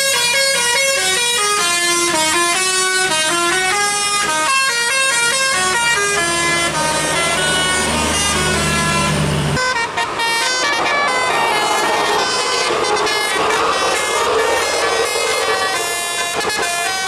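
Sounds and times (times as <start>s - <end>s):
musical air horn playing tune: 0.0s - 17.0s.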